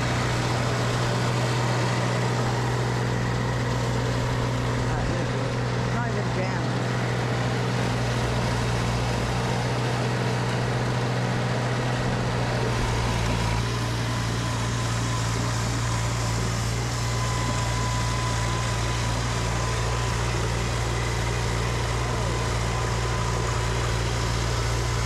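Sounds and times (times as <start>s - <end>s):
snowblower engine running: 0.0s - 25.0s.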